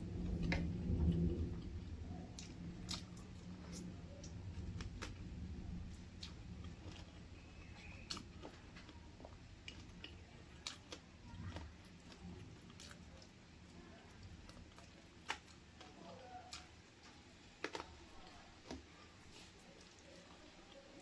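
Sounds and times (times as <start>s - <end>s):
chewing and mouth sounds: 0.0s - 21.0s.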